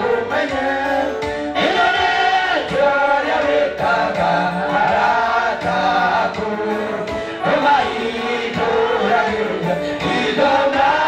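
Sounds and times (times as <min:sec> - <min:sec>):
man singing through loudspeakers: 0:00.0 - 0:11.0.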